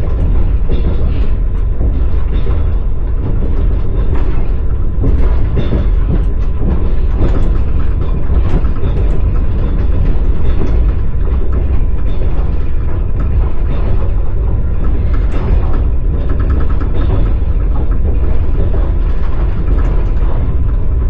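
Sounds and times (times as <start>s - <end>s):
low train rumble: 0.0s - 21.0s
train wheels clattering on rails: 0.0s - 21.0s.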